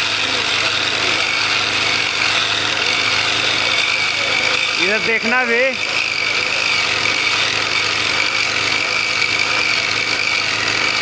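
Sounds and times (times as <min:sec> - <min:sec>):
disc cutter grinding steel rail: 0:00.0 - 0:11.0.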